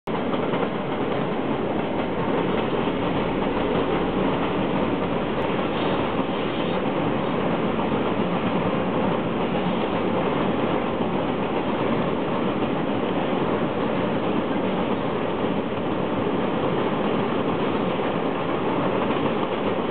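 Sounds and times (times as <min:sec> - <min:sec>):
diesel locomotive engine: 0:00.1 - 0:19.9
train wheels on rails: 0:00.1 - 0:19.9.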